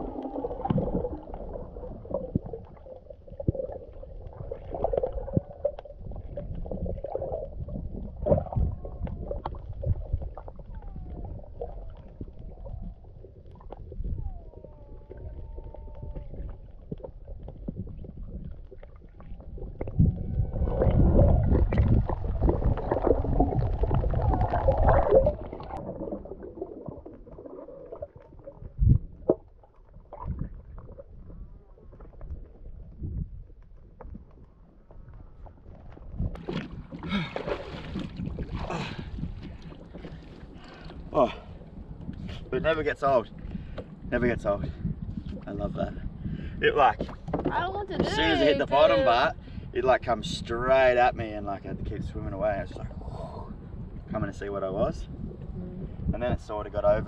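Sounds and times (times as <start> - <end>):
rush of water and bubbles: 0.0 - 50.4
muffled underwater rumble: 0.0 - 57.0.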